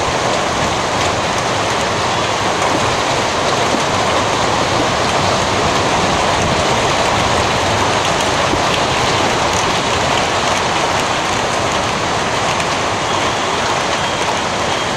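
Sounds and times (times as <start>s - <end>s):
hailstones ticking: 0.0s - 14.9s
rain and hail downpour: 0.0s - 14.9s.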